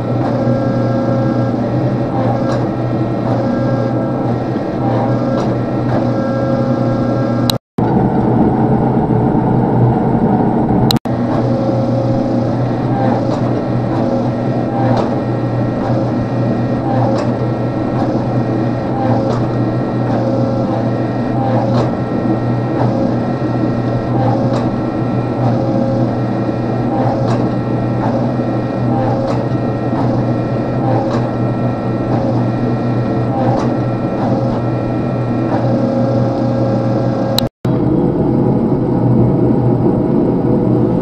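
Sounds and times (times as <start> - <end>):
forging press mechanical drone: 0.0 - 41.0.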